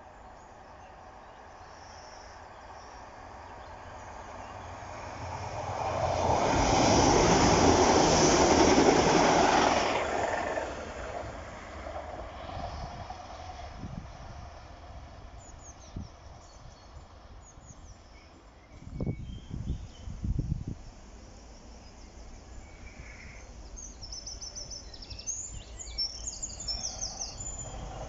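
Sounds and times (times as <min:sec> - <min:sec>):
train passing: 0:00.0 - 0:28.0.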